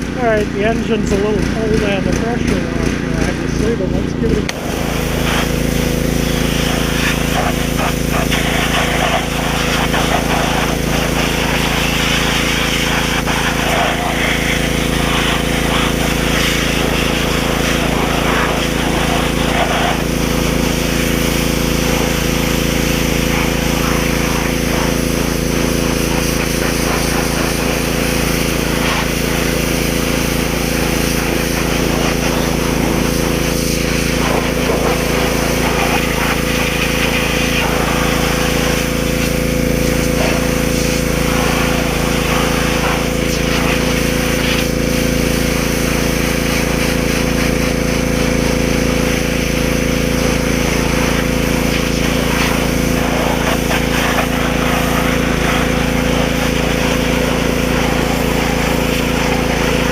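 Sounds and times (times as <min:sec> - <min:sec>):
pressure washer engine humming: 0:00.0 - 0:59.9
water jet hissing: 0:00.0 - 0:59.9.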